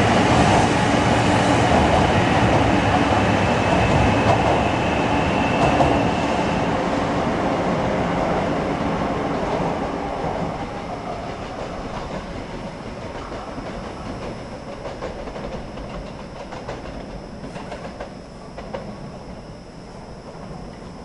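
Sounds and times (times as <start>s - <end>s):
high-speed train passing: 0.0s - 21.0s.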